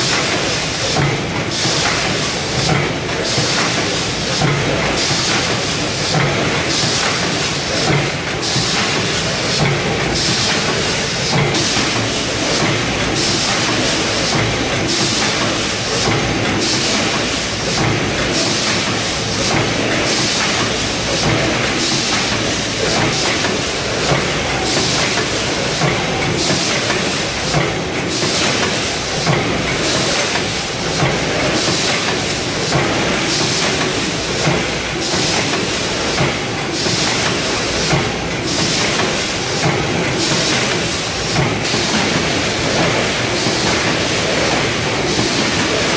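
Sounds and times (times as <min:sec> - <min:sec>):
packing machine clatter: 0:00.0 - 0:45.9.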